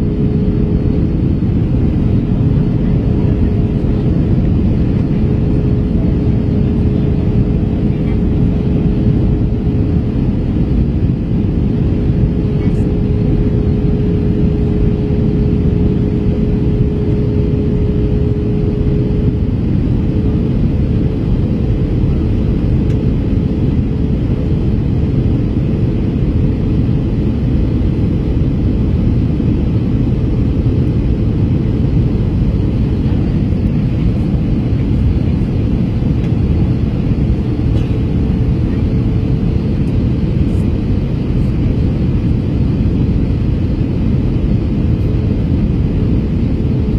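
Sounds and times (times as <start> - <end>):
airliner cabin roar: 0.0 - 46.9
steady hum tone: 0.0 - 46.9.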